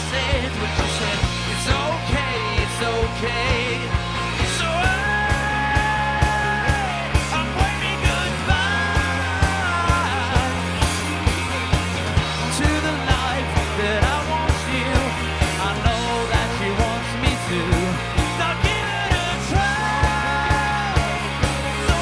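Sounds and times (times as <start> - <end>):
pop rock band playing live: 0.0 - 22.0
drum beat: 0.2 - 22.0.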